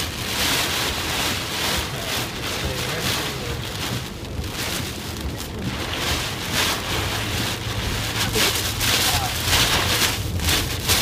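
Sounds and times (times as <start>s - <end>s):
rain beating on car: 0.0s - 11.0s.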